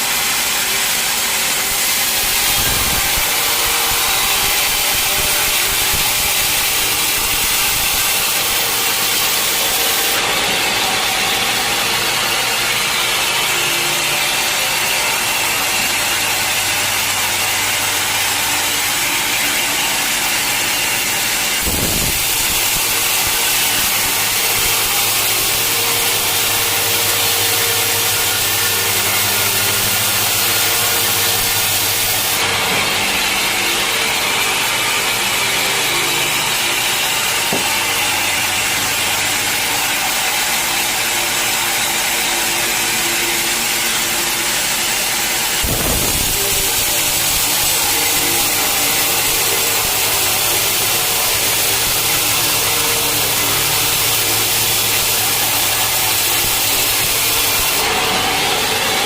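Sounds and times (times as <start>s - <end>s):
mill motor hum: 0.0s - 59.0s
sawmill sawing log: 0.0s - 59.0s.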